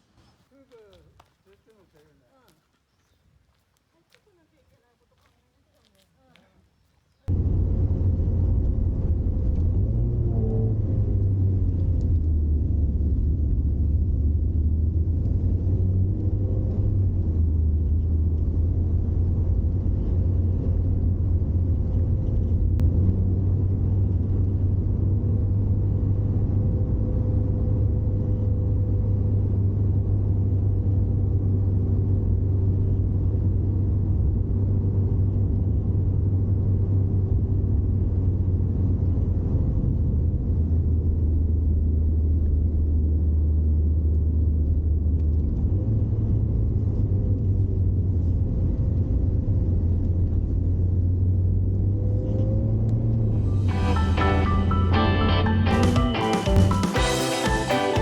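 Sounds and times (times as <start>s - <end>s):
vehicle engine rumble: 0.0s - 56.9s
road noise: 0.0s - 58.0s.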